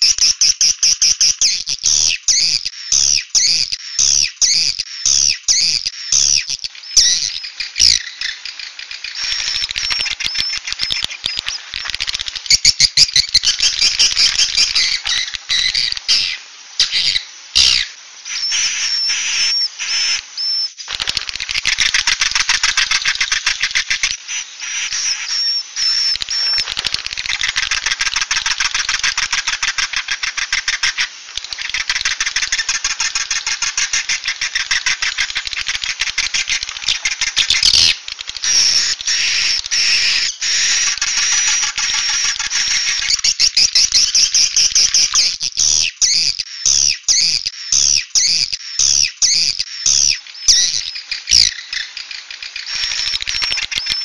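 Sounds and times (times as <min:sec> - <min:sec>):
recorded swiftlet twittering call: 0:00.0 - 0:54.0.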